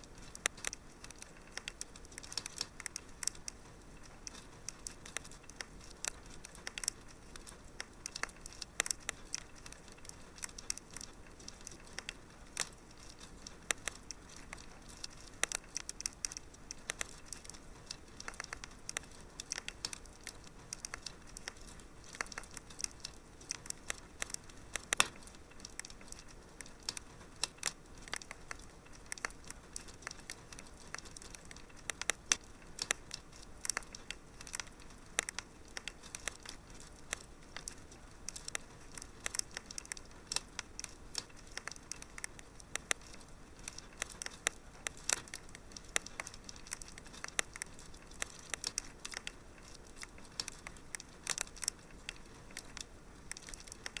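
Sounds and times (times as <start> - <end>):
faint fire hiss: 0.0 - 54.0
wood fire crackling and snapping: 0.0 - 54.0.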